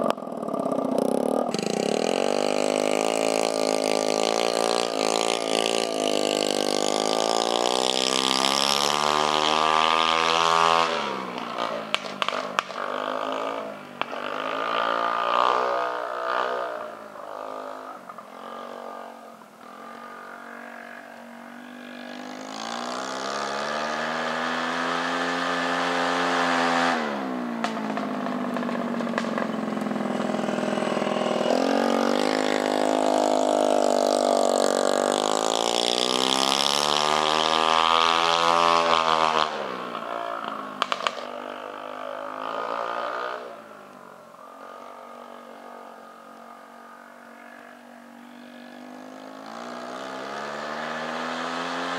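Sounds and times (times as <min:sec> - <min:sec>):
scooter engine revving: 0:00.0 - 0:51.9.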